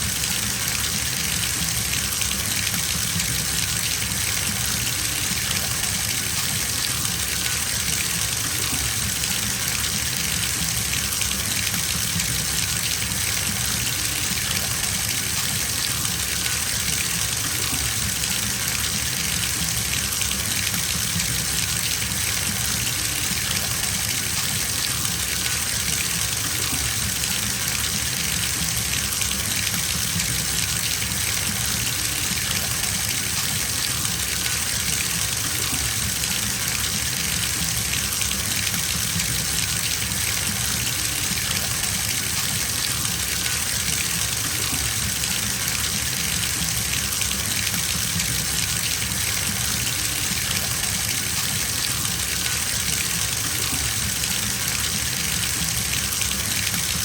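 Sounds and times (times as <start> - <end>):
water gushing into bathtub: 0.0 - 57.0.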